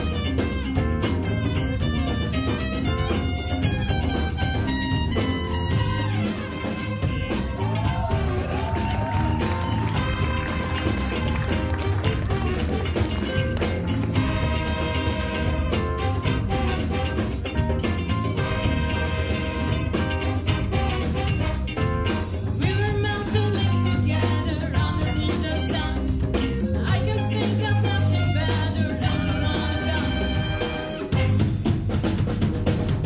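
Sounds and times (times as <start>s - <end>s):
big band playing: 0.0s - 33.0s.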